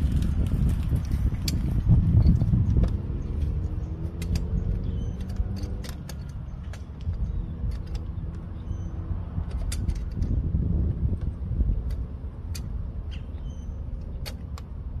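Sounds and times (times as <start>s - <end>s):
low rumble: 0.0s - 15.0s
wrench clicks and knocks: 1.0s - 13.2s, 13.8s - 14.8s.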